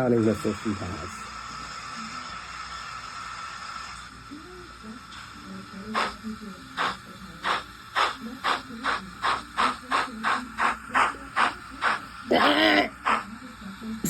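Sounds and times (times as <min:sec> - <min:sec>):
simulated steam locomotive chuffs: 0:00.0 - 0:14.0.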